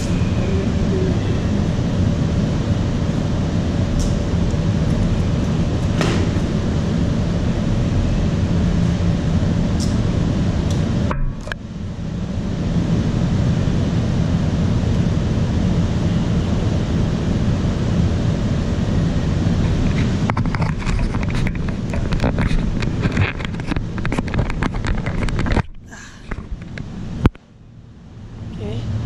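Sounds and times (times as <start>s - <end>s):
wind noise on microphone: 0.0s - 27.4s.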